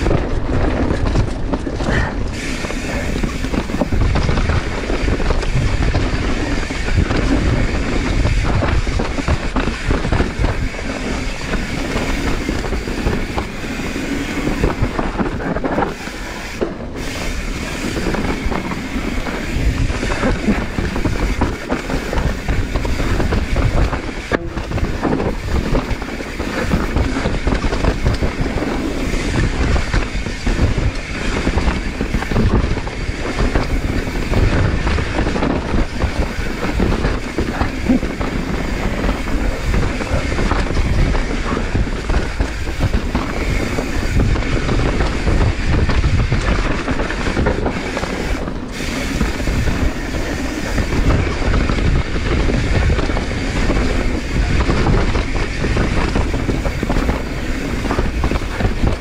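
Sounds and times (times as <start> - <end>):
bike chain and frame rattling: 0.0 - 59.0
bike tyres on dirt and rock: 0.0 - 59.0
steady rumble: 0.0 - 59.0.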